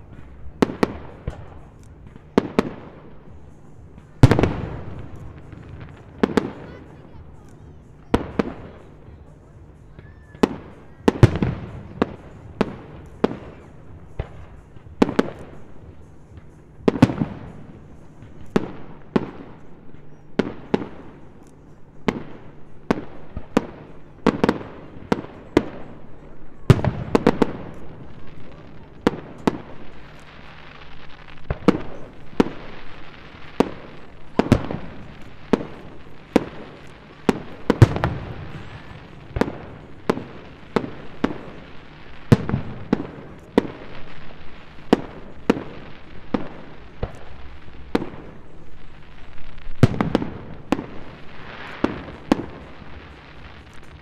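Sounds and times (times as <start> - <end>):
firework hiss: 0.0 - 54.0.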